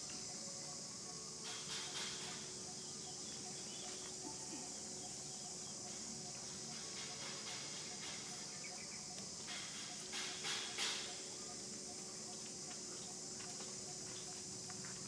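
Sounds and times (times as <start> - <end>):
faint ticks and rustles: 0.0 - 15.0
insects droning: 0.0 - 15.0.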